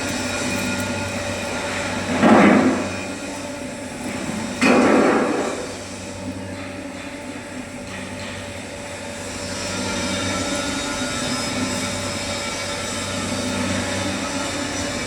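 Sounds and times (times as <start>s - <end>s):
metal lathe humming and whining: 0.0s - 15.0s.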